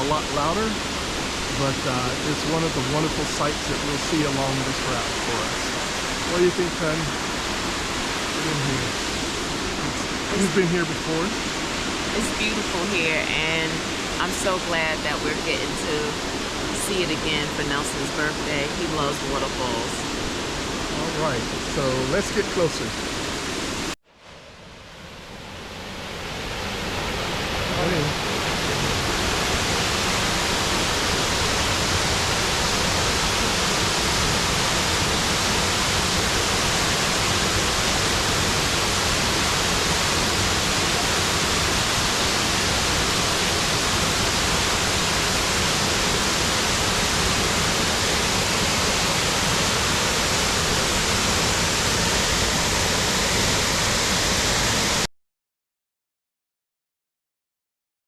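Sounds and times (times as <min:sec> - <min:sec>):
waterfall rushing: 0:00.0 - 0:24.0, 0:25.7 - 0:55.0.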